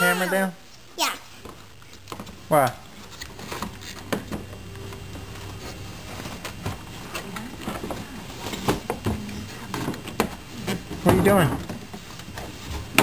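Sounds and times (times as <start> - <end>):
faint low hum: 0.0 - 12.9.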